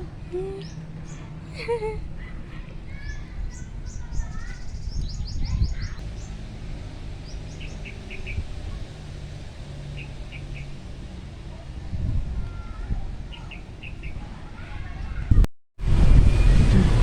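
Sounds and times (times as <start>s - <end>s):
small birds chirping: 0.0s - 15.2s
low rumble: 3.0s - 17.0s.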